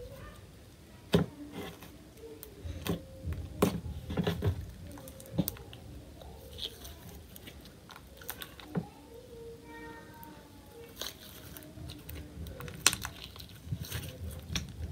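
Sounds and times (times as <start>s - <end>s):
slime squelching: 0.0s - 14.9s.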